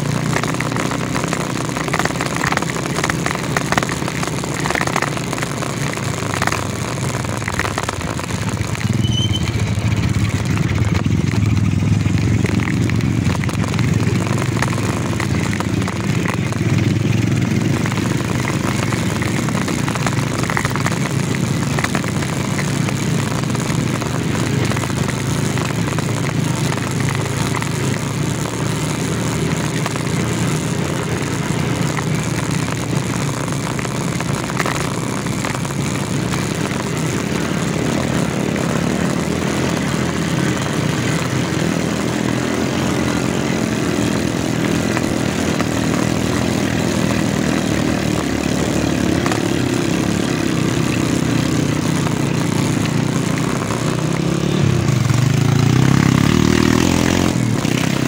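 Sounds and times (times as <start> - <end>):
small motorcycle engine revving: 0.0 - 58.0.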